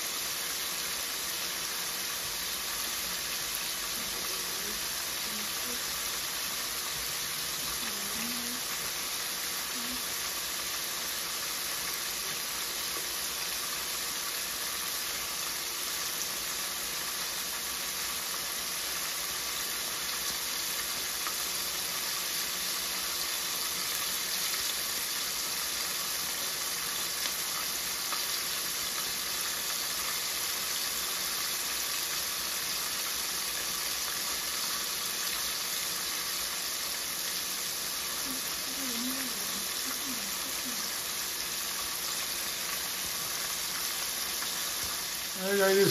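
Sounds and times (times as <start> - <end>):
fish sizzling in hot oil: 0.0 - 45.9.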